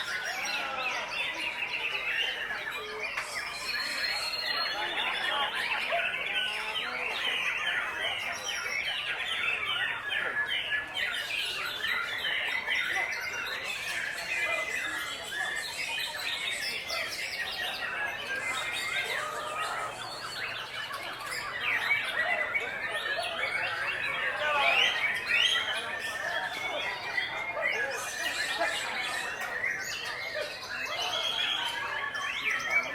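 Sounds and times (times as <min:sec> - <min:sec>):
chorus of birds singing: 0:00.0 - 0:32.9.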